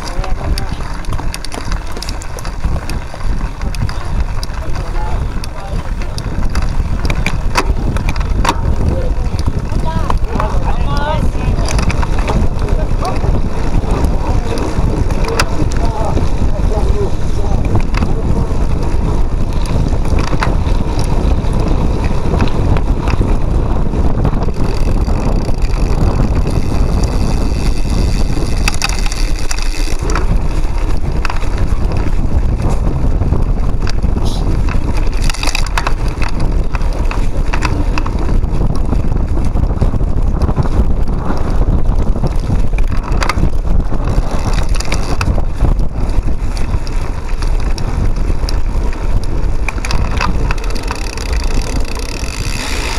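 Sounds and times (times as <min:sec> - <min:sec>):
bike rattling: 0:00.0 - 0:52.9
wind on microphone: 0:00.0 - 0:52.9.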